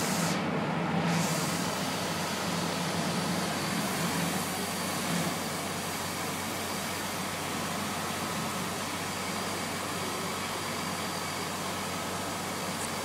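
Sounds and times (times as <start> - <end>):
diesel engines running: 0.0 - 13.0
hiss of water streams: 0.0 - 13.0.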